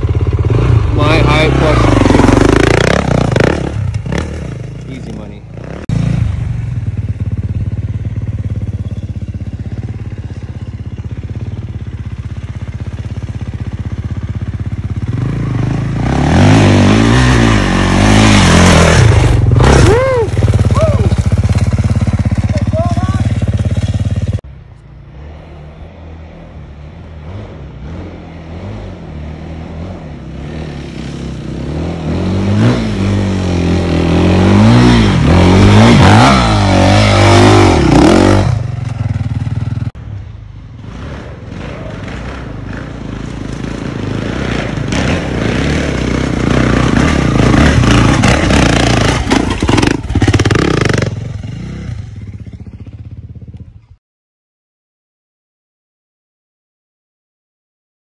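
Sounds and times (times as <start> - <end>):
dirt bike engine revving: 0.0 - 24.4, 25.1 - 39.9, 40.8 - 52.9.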